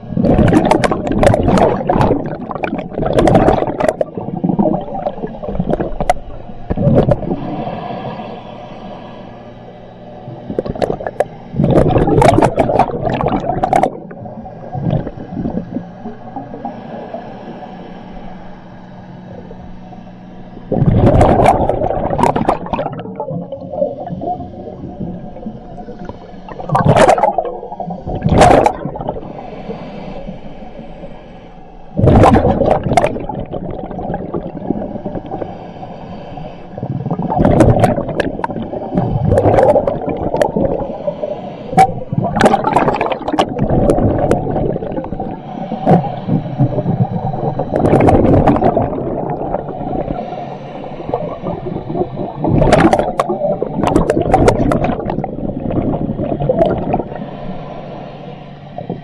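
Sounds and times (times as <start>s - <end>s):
exhaled bubbles rushing: 0.0s - 8.4s, 10.2s - 18.1s, 20.4s - 30.3s, 31.9s - 57.8s, 58.7s - 59.0s
low underwater rumble: 0.0s - 59.0s.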